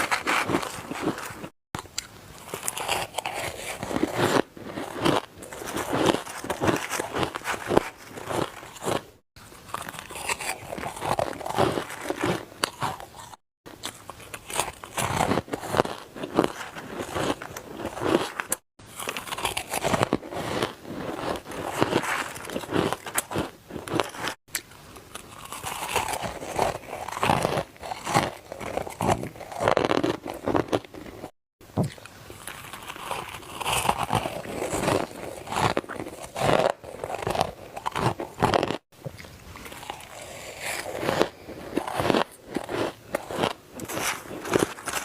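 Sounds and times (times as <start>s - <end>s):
ice crunching between teeth: 0.0s - 45.0s.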